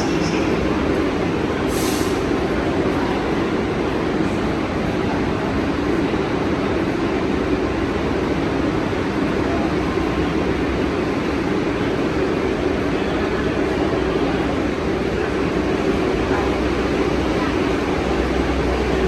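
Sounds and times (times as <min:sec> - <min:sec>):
subway train rumbling: 0:00.0 - 0:19.0.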